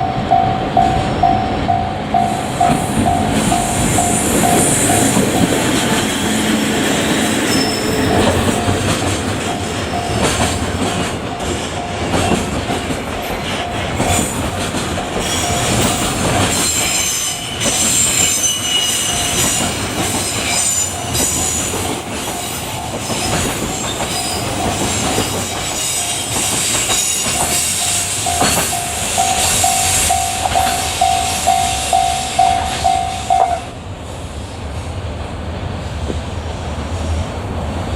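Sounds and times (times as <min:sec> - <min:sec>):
high wheel squeal: 0:00.0 - 0:11.0, 0:13.2 - 0:33.7
level crossing warning bell: 0:00.0 - 0:33.8
train wheels clattering over joints: 0:02.4 - 0:33.6.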